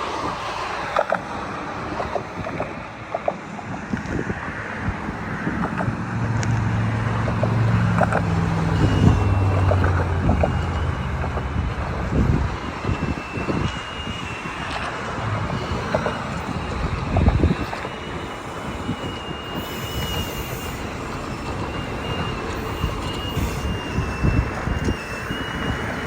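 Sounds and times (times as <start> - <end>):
locomotive engine droning: 0.0 - 26.0
wind buffeting microphone: 0.0 - 26.0
train wheels clicking over rail joints: 0.1 - 26.0
high wheel squeal: 5.0 - 26.0.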